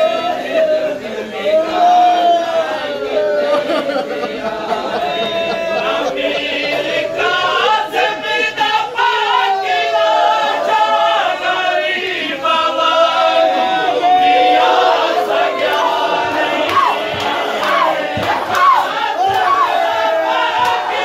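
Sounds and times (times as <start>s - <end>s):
group of voices chanting a lament: 0.0s - 21.0s
lead reciter chanting: 0.0s - 21.0s.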